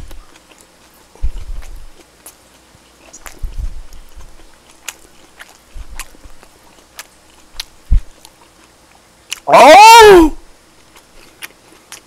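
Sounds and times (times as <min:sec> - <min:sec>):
person chewing food: 0:00.0 - 0:10.0, 0:10.8 - 0:12.0.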